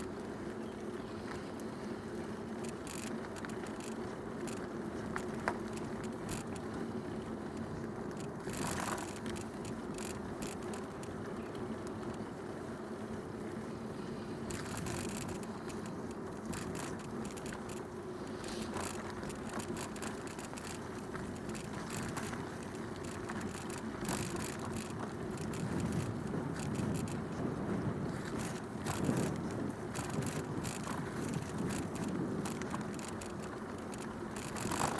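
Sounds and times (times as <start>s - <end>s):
bicycle rattles: 0.0s - 34.9s
bicycle tyre rumble: 0.0s - 34.9s.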